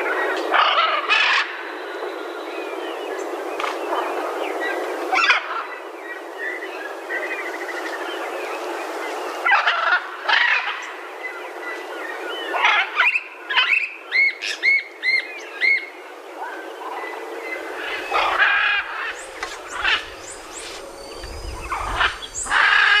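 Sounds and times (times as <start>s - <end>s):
birds chirping: 0.0s - 23.0s
steady background hiss: 0.0s - 23.0s.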